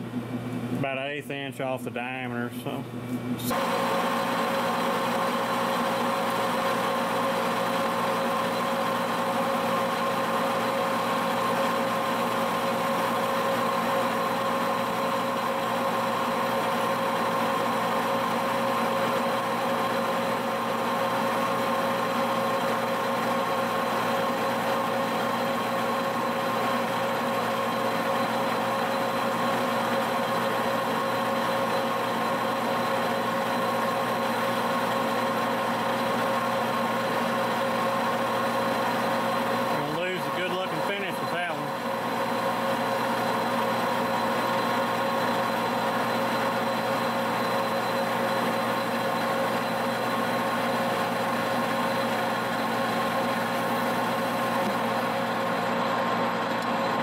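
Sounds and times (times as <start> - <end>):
lathe whine and hum: 0.0 - 57.0.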